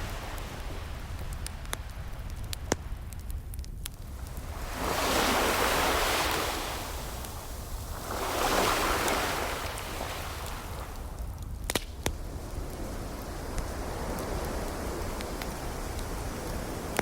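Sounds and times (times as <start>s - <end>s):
ocean waves washing in: 0.0s - 2.3s, 4.0s - 17.0s
fireplace crackling pops: 0.0s - 17.0s.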